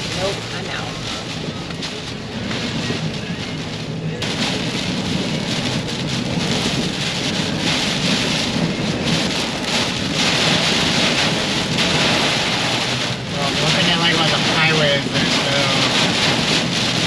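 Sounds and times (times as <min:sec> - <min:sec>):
heavy rain on vehicle roof: 0:00.0 - 0:17.0.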